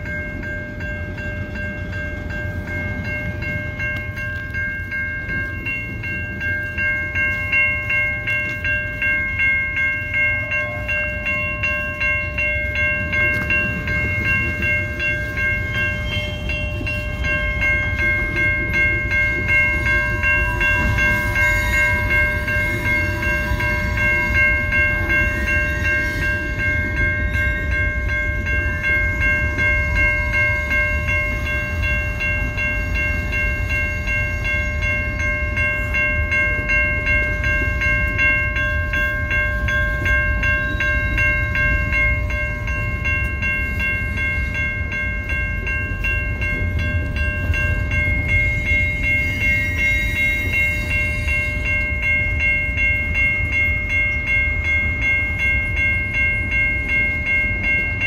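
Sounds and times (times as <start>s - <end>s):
freight cars rumbling on tracks: 0.0s - 58.0s
railroad crossing bell ringing: 0.0s - 58.0s.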